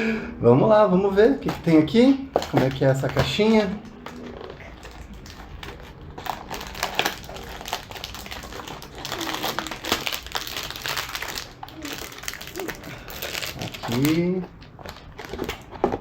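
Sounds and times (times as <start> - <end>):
packaging crinkling: 1.1 - 16.0.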